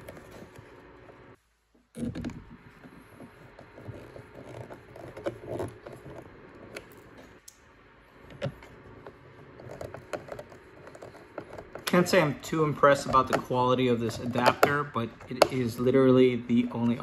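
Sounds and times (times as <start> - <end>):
screwdriver scraping and handling: 0.0 - 1.4, 2.0 - 7.3, 8.3 - 17.0.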